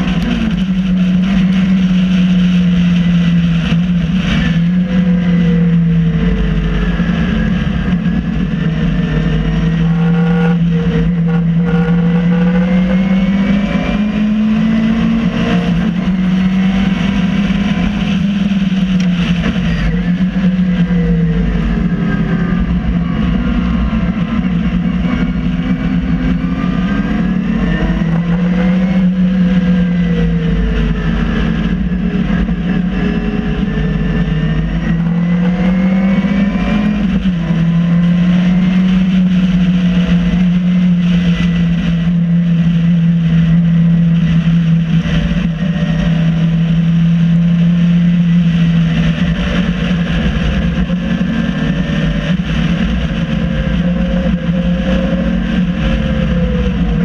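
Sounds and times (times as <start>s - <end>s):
race car engine: 0.0s - 57.0s
wind and road noise: 0.0s - 57.0s.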